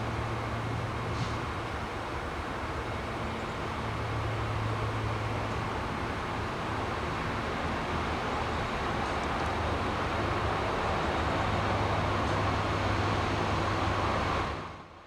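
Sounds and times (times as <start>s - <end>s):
freight train rumbling on rails: 0.0s - 14.9s.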